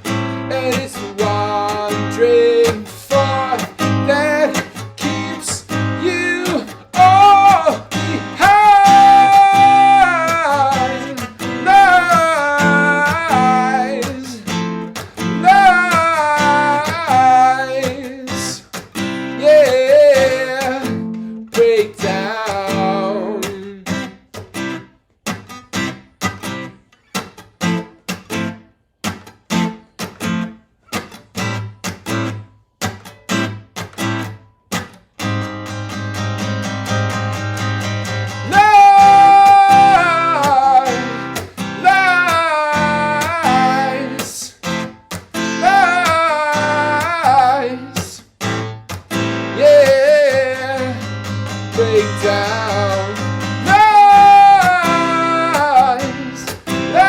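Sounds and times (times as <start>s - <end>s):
sliding guitar melody: 0.0s - 57.0s
strummed acoustic guitar chords: 0.0s - 57.0s.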